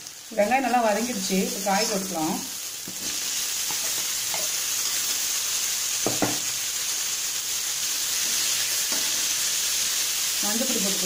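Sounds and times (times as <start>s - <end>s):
beans sizzling in hot oil: 0.0s - 11.0s.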